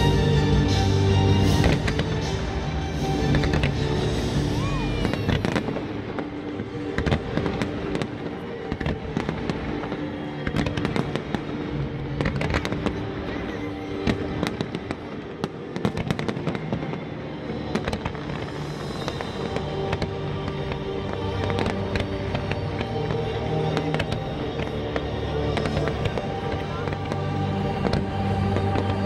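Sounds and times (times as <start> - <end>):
fireworks bangs and crackling: 0.0 - 29.0
music with long held tones: 0.0 - 29.0.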